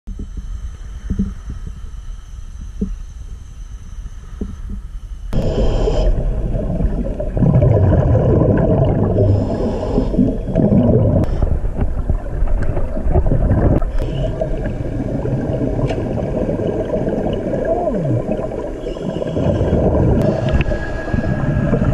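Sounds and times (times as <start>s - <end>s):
muffled underwater rumble and gurgling: 0.1s - 21.9s.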